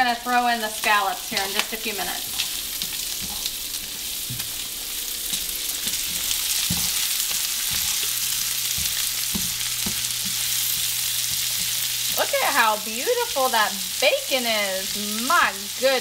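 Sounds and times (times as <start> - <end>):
bacon and onions sizzling: 0.0 - 16.0.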